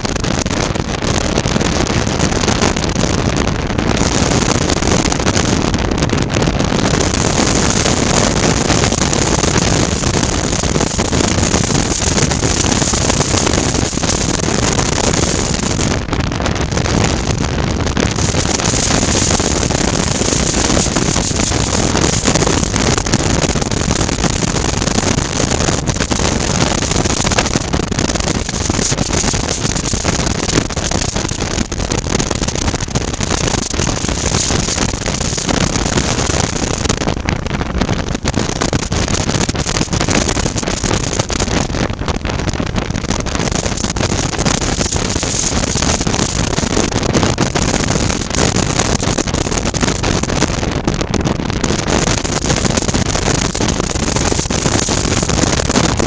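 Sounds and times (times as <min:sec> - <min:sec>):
wind rushing over helmet: 0:00.0 - 0:56.0.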